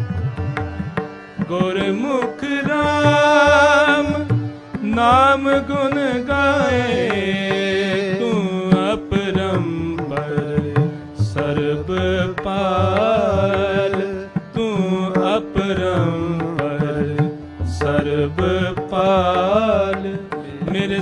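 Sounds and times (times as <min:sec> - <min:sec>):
harmonium: 0:00.0 - 0:21.0
tabla strokes: 0:00.0 - 0:21.0.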